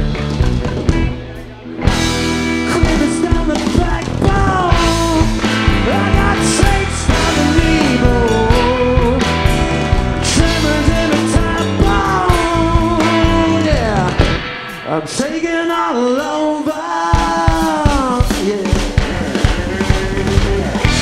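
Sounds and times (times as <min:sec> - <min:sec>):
rock band playing live: 0:00.0 - 0:21.0
person singing: 0:02.6 - 0:09.6, 0:10.2 - 0:21.0.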